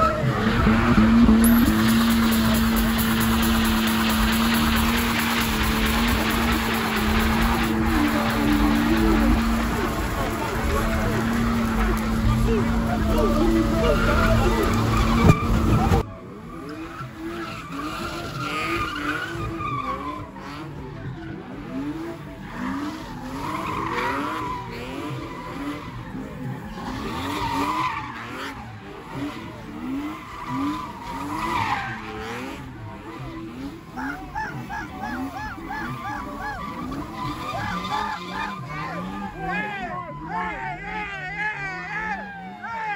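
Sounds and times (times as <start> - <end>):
tyres squealing: 0.0 - 16.1, 22.5 - 41.3
car engine revving: 0.0 - 42.8
car burnout: 0.0 - 42.9.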